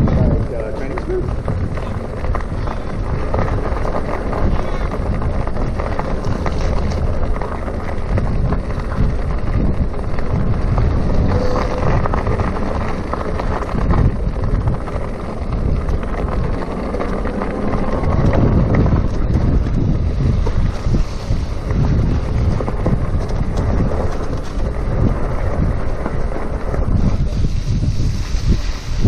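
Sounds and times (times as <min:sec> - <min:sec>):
tyre and road noise: 0:00.0 - 0:29.0
wind buffeting microphone: 0:00.0 - 0:29.0.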